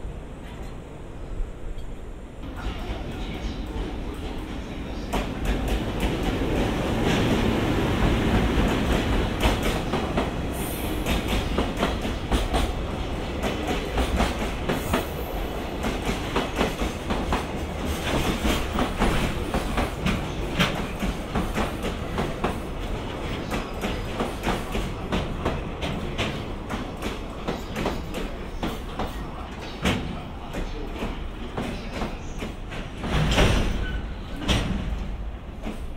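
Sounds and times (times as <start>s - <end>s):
train wheels clickety-clack: 2.4s - 35.9s.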